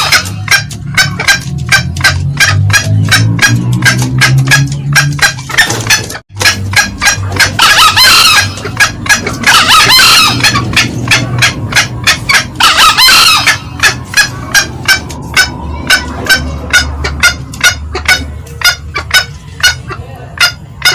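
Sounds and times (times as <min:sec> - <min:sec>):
low hum: 0:00.0 - 0:19.9
junglefowl clucking: 0:00.0 - 0:20.9
junglefowl crowing: 0:00.0 - 0:20.9.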